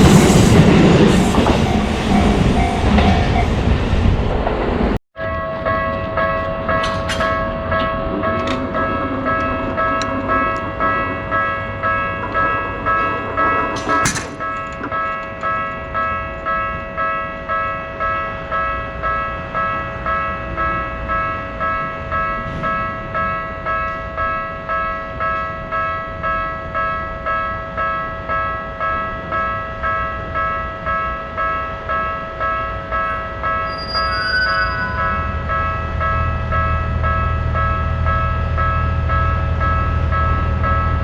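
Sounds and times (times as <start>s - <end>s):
level-crossing warning bell: 0.0s - 4.2s, 5.2s - 41.0s.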